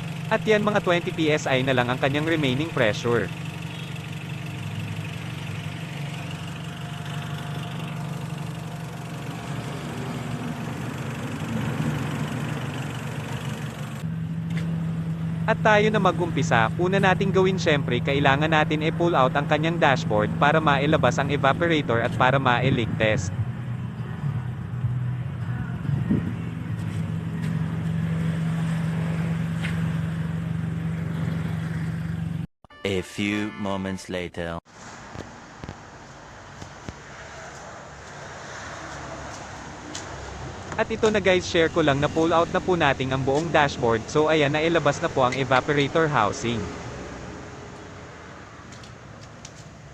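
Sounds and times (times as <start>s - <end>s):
car engine idling: 0.0s - 32.4s, 38.9s - 46.6s.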